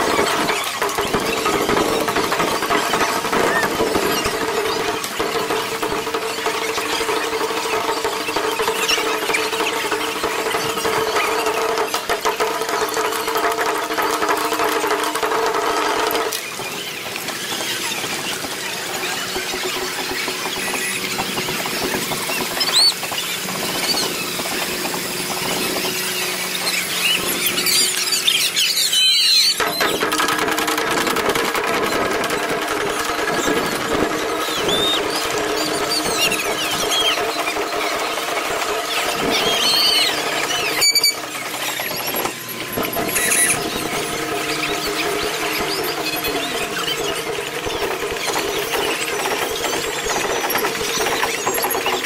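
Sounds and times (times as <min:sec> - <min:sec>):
sharp clatter: 0:00.0 - 0:52.0
sped-up squeaky crowd chatter: 0:00.0 - 0:52.0.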